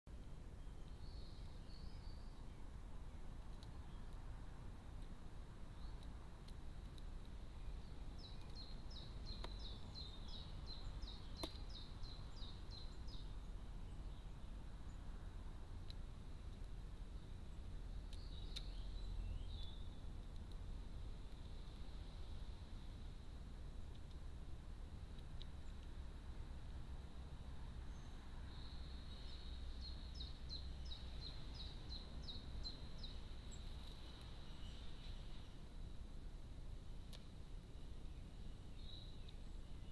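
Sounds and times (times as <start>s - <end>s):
steady low rumble: 0.1s - 39.9s.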